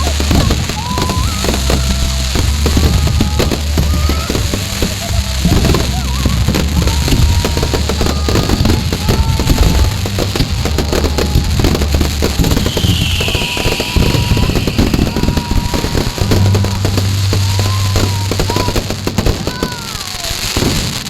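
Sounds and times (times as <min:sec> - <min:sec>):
background music with bass: 0:00.0 - 0:19.7
fireworks crackling and popping: 0:00.0 - 0:21.0
hissing rush: 0:00.0 - 0:21.0.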